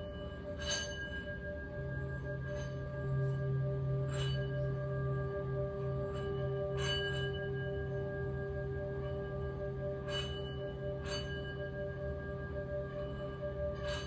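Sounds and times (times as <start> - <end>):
low hum: 0.0 - 14.0
singing bowl ringing: 0.0 - 14.0.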